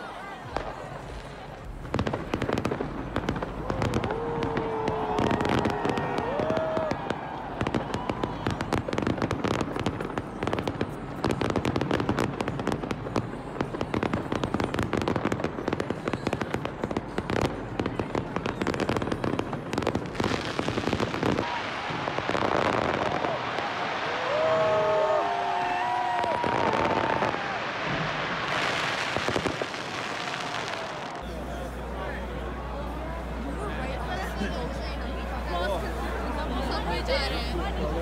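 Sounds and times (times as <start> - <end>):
fireworks crackling and banging: 0.0 - 38.0.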